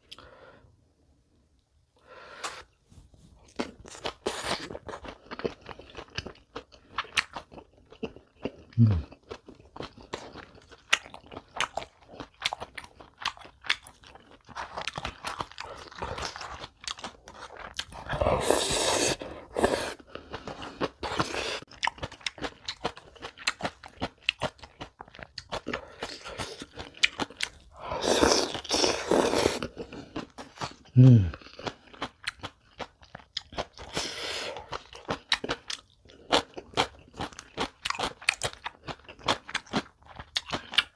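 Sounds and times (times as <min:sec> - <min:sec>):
person chewing crisp food: 0:02.3 - 0:40.9.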